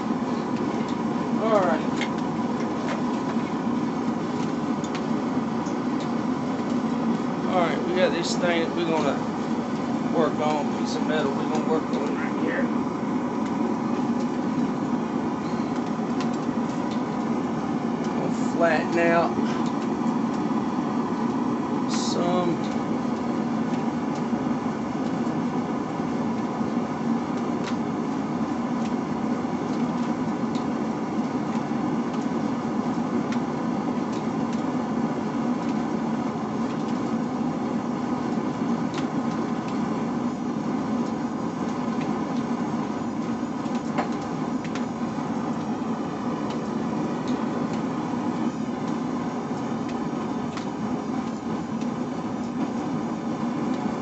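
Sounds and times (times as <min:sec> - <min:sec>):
forge running: 0:00.0 - 0:54.0.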